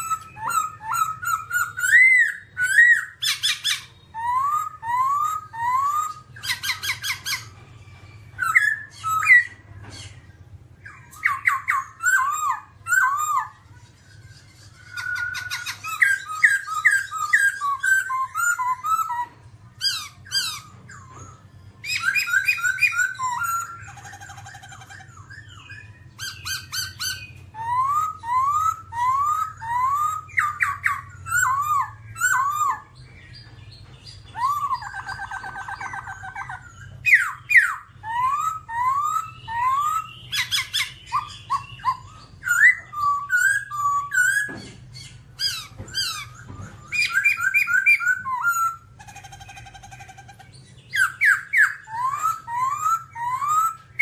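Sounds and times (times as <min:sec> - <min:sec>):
bird harsh chattering: 0:00.0 - 0:10.2, 0:10.8 - 0:54.0
bird whistling: 0:00.0 - 0:10.2, 0:10.8 - 0:54.0.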